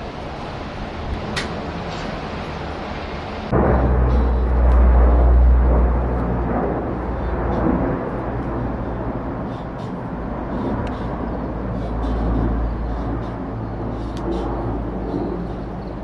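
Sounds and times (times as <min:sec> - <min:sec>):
aircraft flying overhead: 0:00.0 - 0:16.0.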